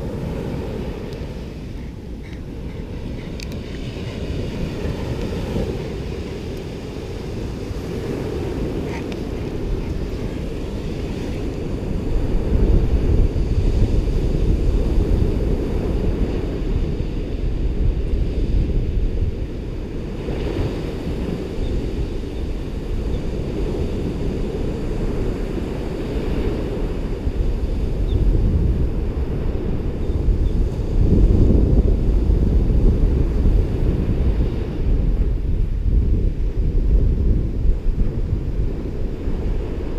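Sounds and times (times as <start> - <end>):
surf washing on beach: 0.0 - 39.9
wind rumbling on microphone: 0.0 - 39.9.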